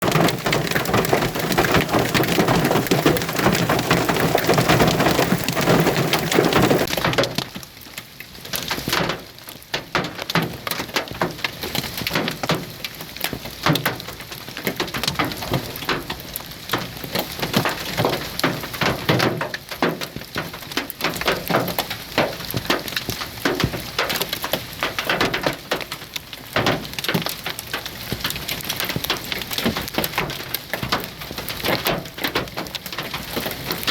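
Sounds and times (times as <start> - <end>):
hailstones pelting down: 0.0 - 33.9.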